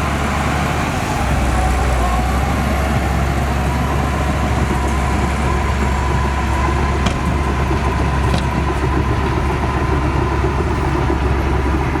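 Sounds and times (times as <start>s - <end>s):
bulldozer diesel engine rumbling: 0.0s - 12.0s.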